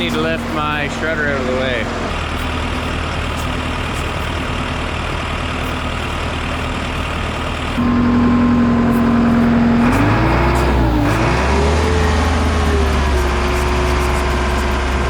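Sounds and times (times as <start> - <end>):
diesel engine running: 0.0 - 15.0
loud steady machine whine: 0.0 - 15.0.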